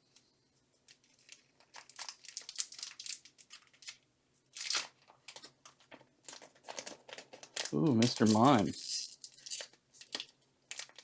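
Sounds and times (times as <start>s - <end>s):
foil wrapper crinkling: 1.0s - 11.0s
foil wrapper ripping: 1.2s - 4.0s, 4.6s - 11.0s.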